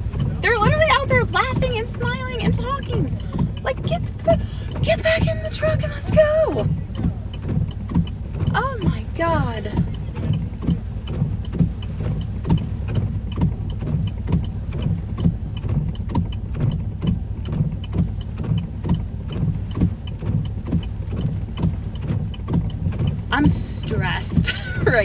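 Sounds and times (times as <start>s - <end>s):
regular ticking: 0.0s - 25.0s
truck engine idling: 0.0s - 25.0s.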